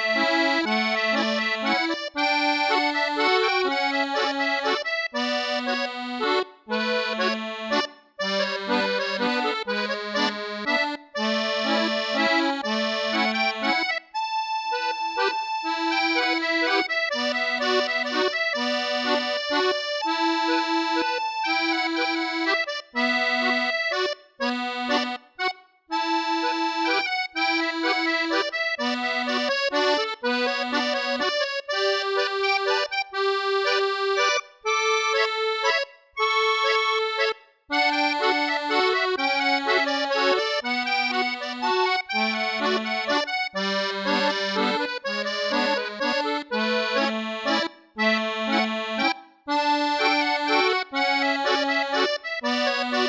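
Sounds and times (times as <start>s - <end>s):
slow instrumental melody: 0.0s - 53.0s.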